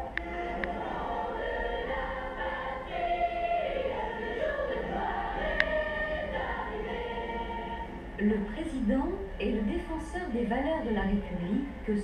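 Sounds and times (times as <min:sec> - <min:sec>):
choir singing from television: 0:00.0 - 0:12.0.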